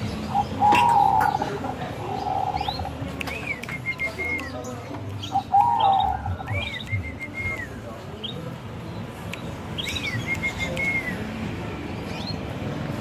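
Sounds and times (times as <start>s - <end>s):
dove singing: 0.0s - 12.8s.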